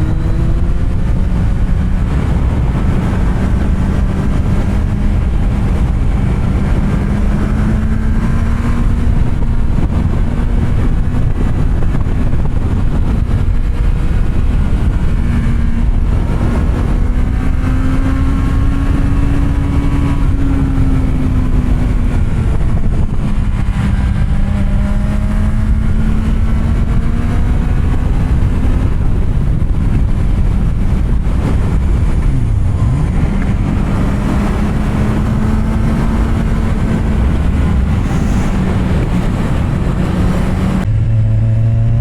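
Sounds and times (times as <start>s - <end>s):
motorcycle engine at steady revs: 0.0s - 42.0s.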